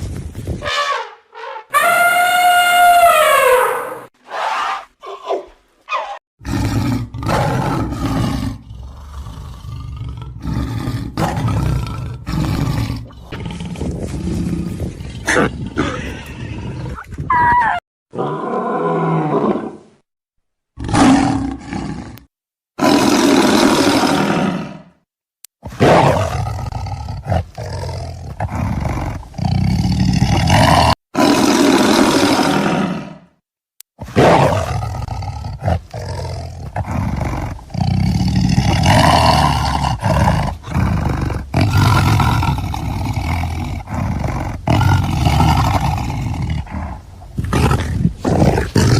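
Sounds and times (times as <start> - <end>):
wild animal roars and growls: 0.6 - 19.9, 20.8 - 25.0, 25.7 - 33.4, 34.0 - 48.9.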